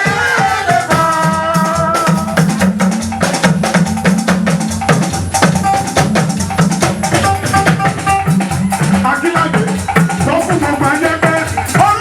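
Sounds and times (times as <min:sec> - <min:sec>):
drums and shakers beat: 0:00.0 - 0:12.0.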